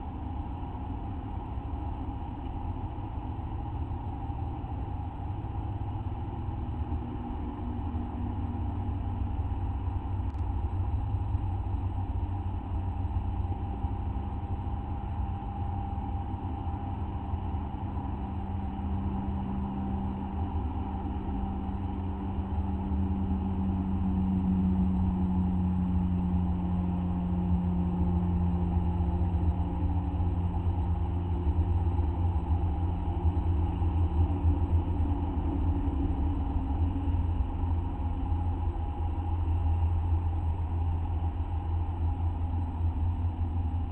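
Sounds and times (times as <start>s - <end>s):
low droning hum: 0.0s - 43.9s.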